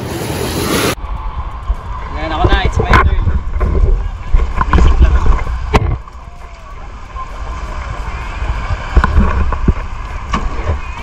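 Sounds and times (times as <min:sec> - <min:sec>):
wind buffeting microphone: 0:00.9 - 0:11.0.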